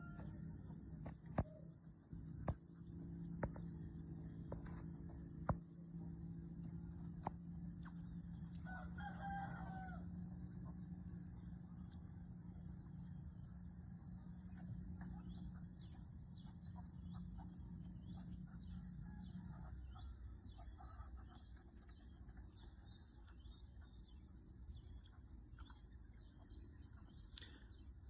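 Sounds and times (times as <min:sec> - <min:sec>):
birds chirping: 0:00.0 - 0:28.0
low steady hum: 0:00.0 - 0:28.0.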